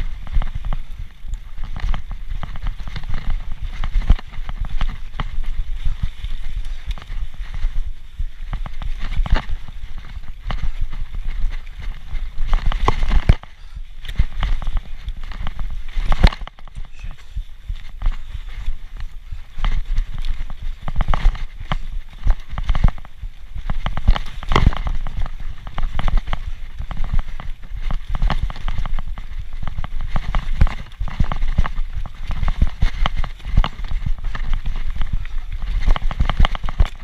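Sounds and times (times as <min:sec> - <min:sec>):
bike rattling over bumps: 0:00.0 - 0:37.0
wind buffeting microphone: 0:00.0 - 0:37.0.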